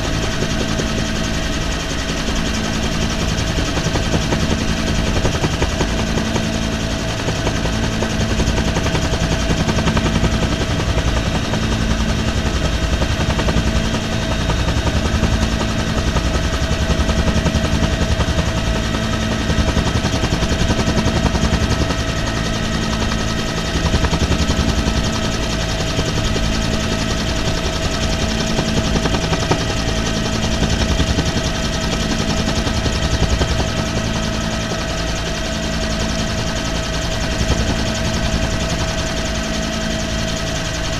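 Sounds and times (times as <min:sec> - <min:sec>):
helicopter rotor chop: 0:00.0 - 0:40.9
pulsing low hum: 0:00.0 - 0:40.9.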